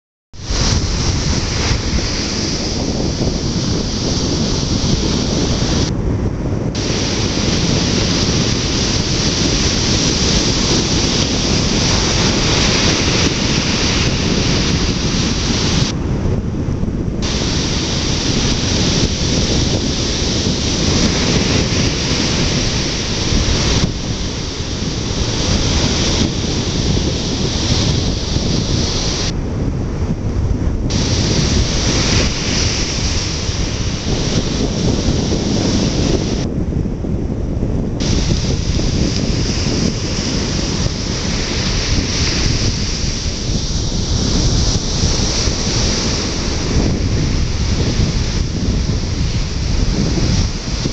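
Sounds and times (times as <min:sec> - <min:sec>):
ocean surf breaking: 0:00.4 - 0:05.9, 0:06.8 - 0:16.2, 0:17.2 - 0:29.4, 0:30.9 - 0:36.5, 0:38.0 - 0:50.9
wind buffeting microphone: 0:00.4 - 0:50.9.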